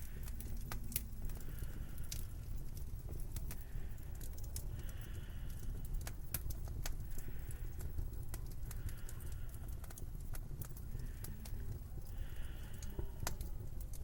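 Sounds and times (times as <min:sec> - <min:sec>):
sharp clicks and crackles: 0:00.0 - 0:14.0.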